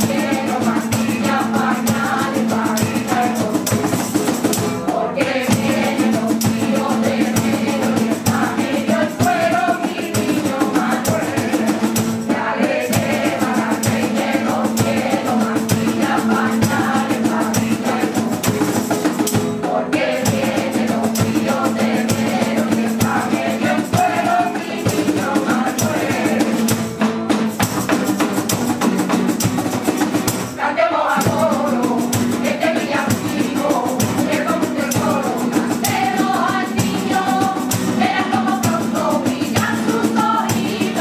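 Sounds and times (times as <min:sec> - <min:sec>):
women's choir singing: 0:00.0 - 0:26.8, 0:30.4 - 0:41.0
cajon drum: 0:00.0 - 0:41.0
strummed guitars: 0:00.0 - 0:41.0
tambourine: 0:00.0 - 0:41.0.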